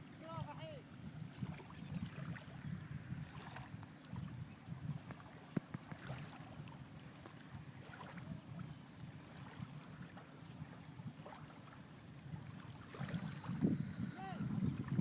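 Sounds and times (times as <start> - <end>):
faint sea water lapping: 0.0 - 15.0
wind rumble on microphone: 0.0 - 15.0.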